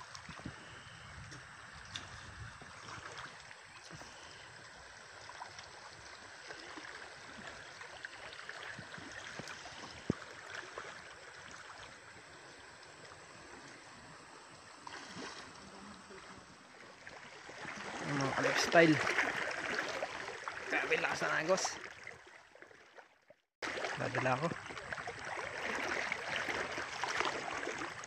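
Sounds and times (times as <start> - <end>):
river water swishing around waders: 0.0 - 28.0
small splashes: 1.4 - 14.0, 14.7 - 28.0.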